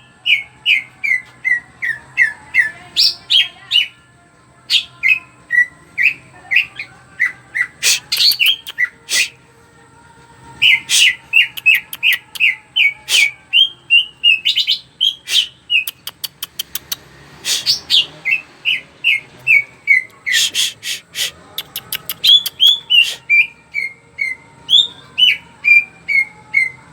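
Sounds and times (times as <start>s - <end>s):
bird singing: 0.0s - 9.4s, 10.5s - 26.9s.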